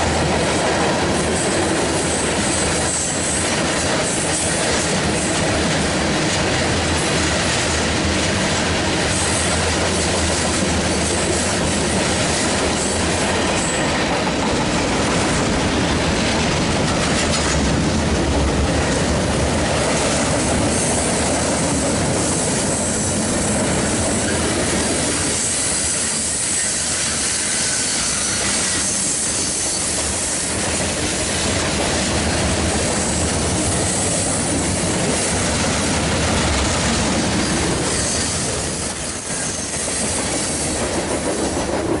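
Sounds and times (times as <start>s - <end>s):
steel wheels on rails: 0.0s - 42.0s.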